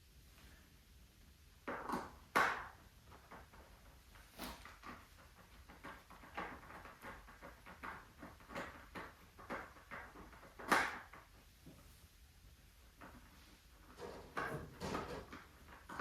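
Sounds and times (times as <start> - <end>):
knocks and rustles of handling: 1.6 - 12.2, 12.8 - 16.0.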